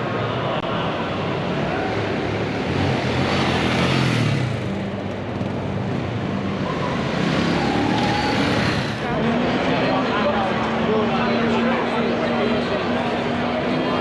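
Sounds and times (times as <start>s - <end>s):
motorcycle engines revving: 0.0s - 14.0s
steady din of noise: 0.0s - 14.0s.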